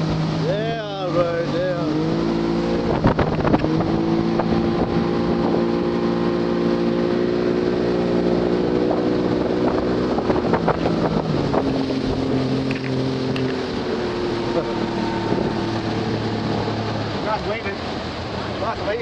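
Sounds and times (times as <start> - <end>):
motorboat engine running: 0.0 - 19.0
wind buffeting microphone: 0.0 - 19.0.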